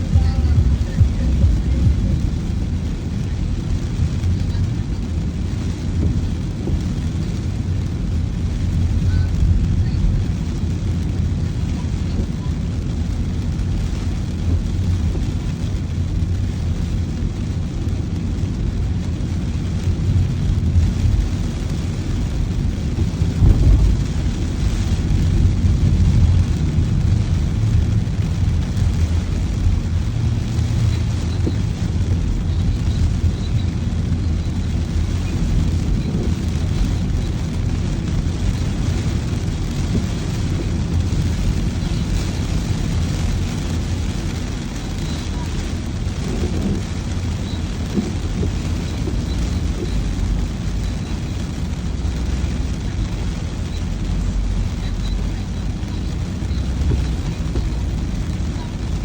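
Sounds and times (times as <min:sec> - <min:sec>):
car driving rumble: 0:00.0 - 0:59.0.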